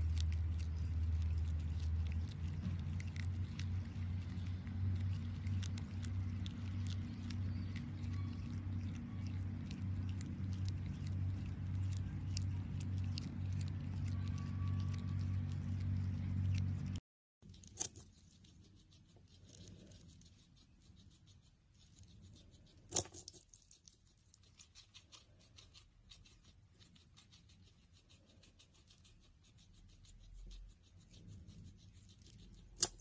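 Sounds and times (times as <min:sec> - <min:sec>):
guinea pig crunching cucumber: 0:00.0 - 0:33.0
low steady hum: 0:00.0 - 0:33.0.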